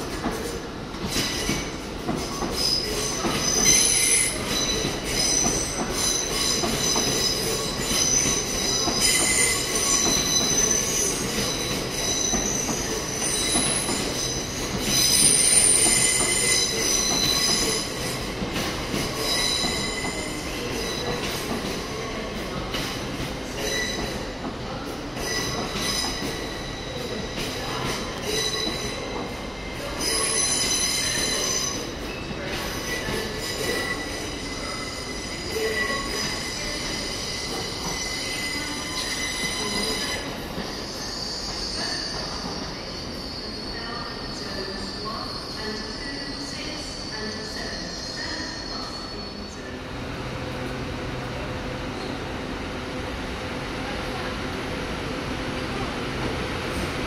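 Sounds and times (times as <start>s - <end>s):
train wheels squealing on rails: 0.0s - 50.0s, 51.8s - 52.5s
rumble of train wheels: 0.0s - 57.0s.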